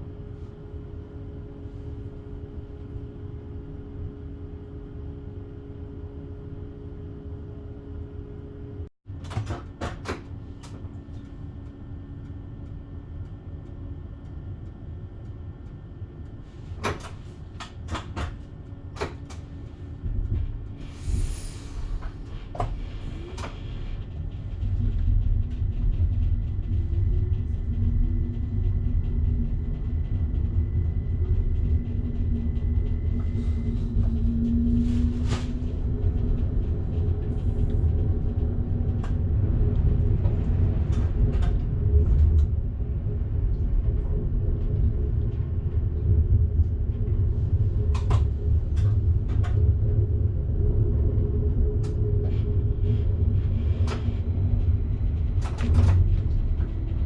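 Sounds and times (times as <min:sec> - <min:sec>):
train rumble: 0:10.1 - 0:57.0.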